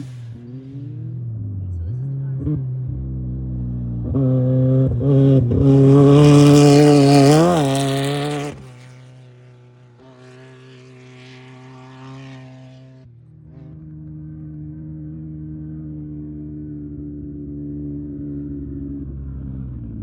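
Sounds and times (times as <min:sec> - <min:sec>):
race vehicle engine passing: 0:00.0 - 0:20.0.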